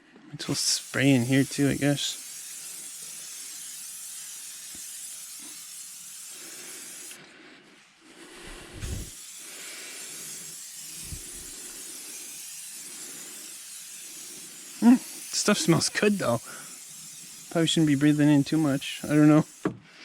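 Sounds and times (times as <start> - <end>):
aerosol can spraying: 0.4 - 7.2, 8.3 - 19.8.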